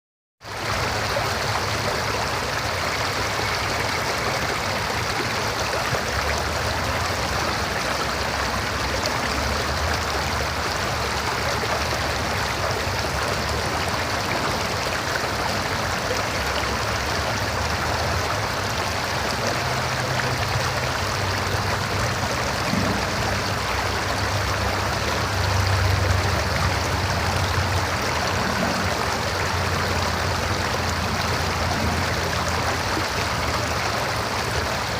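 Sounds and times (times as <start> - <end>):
river water flowing over rocks: 0.4 - 34.9.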